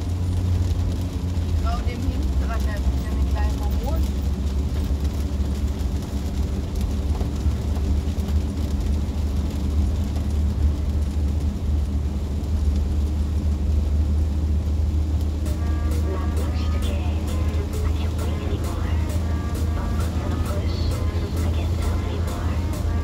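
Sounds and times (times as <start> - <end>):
car engine running steadily: 0.0 - 23.0.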